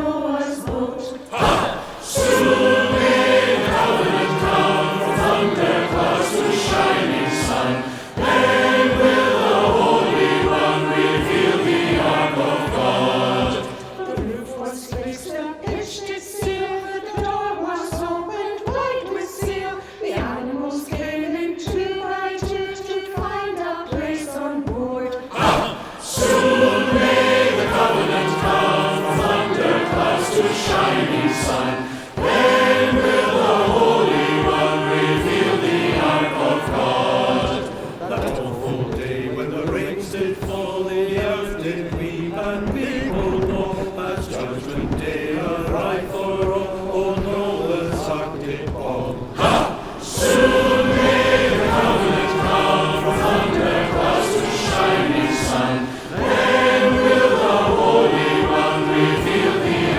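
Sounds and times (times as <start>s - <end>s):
voices singing a hymn: 0.0s - 59.9s.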